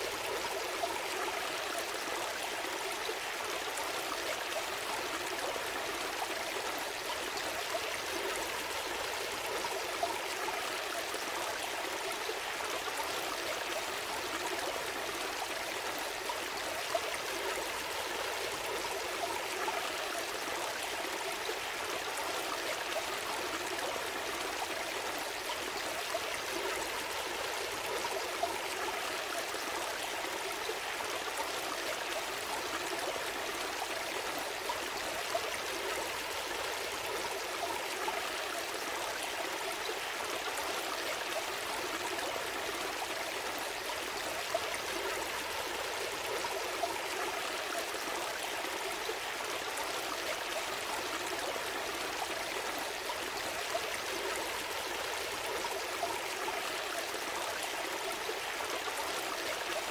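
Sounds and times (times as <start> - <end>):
small stream flowing: 0.0 - 59.9.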